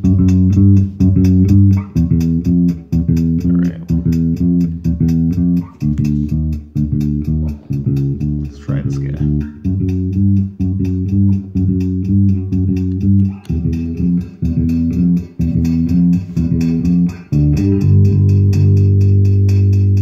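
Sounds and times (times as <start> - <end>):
electric bass through effects: 0.0 - 20.0.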